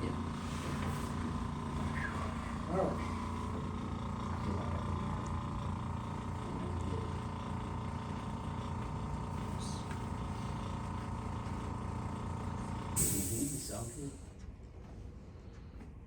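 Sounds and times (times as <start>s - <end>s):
electric motor hum: 0.0s - 14.2s.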